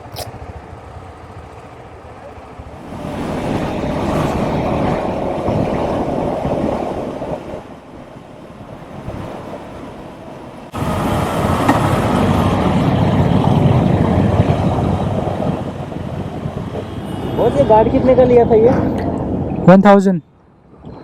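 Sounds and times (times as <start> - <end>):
vehicle engine rumble: 0.0 - 19.7
wind buffeting microphone: 0.0 - 19.7.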